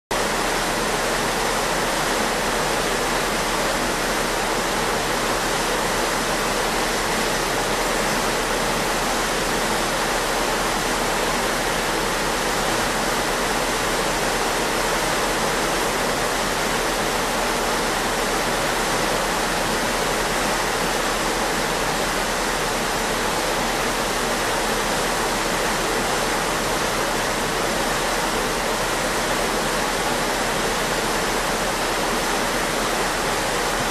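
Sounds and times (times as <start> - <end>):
water rushing in ship's wake: 0.1 - 33.9.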